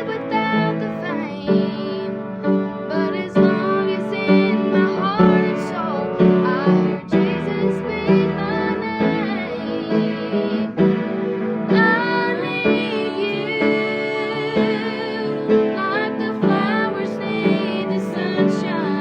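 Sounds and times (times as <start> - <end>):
woman singing gliding notes: 0.0 - 2.2, 2.9 - 10.9, 11.7 - 19.0
piano accompaniment: 0.0 - 19.0.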